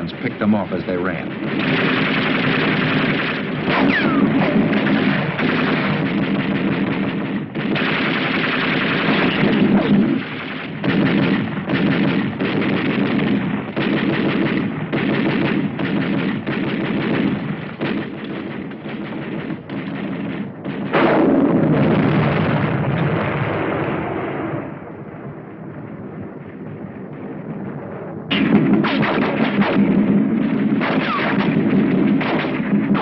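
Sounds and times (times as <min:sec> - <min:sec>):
machine-gun fire: 0:00.0 - 0:22.9, 0:28.3 - 0:33.0
gunshots: 0:00.0 - 0:24.7, 0:28.3 - 0:33.0.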